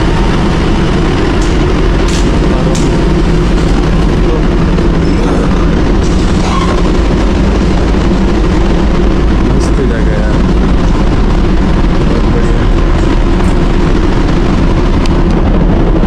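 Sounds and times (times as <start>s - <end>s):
ship engine low rumble: 0.0s - 16.0s.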